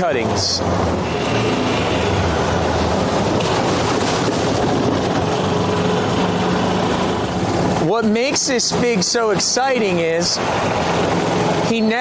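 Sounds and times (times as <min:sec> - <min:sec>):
golf cart engine running: 0:00.0 - 0:12.0.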